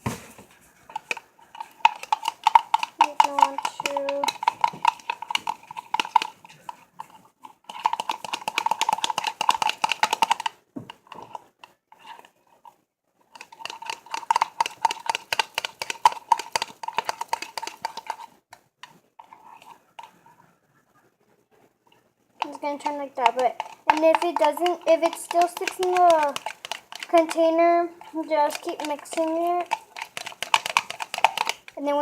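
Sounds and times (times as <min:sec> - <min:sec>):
utensil stirring in a container: 0:00.7 - 0:20.3, 0:21.9 - 0:32.0.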